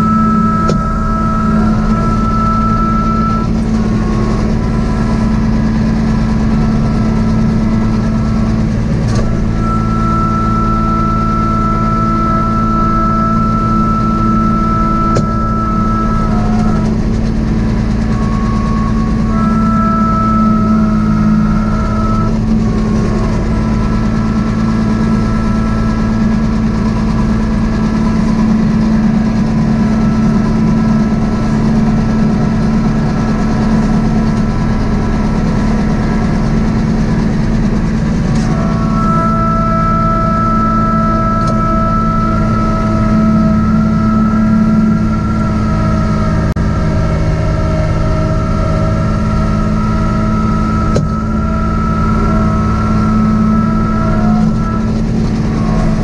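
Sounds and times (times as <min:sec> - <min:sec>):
high steady whine: 0:00.0 - 0:56.0
tractor diesel engine running: 0:00.0 - 0:56.0.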